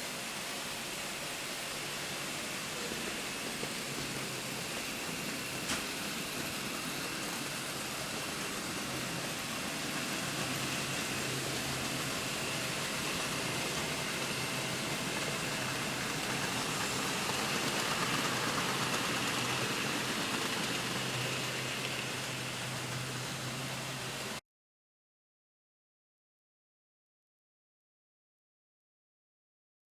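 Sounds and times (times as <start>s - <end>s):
model train rolling hiss: 0.0s - 24.4s.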